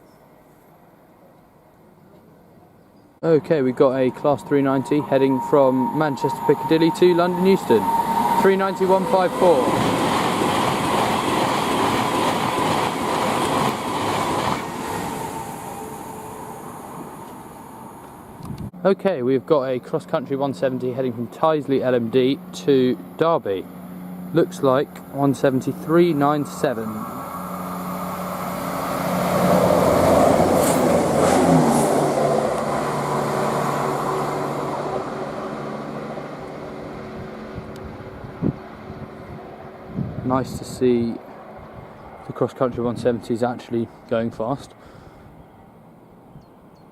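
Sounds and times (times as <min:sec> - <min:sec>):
electric train passing: 0:03.2 - 0:18.8, 0:20.4 - 0:46.9.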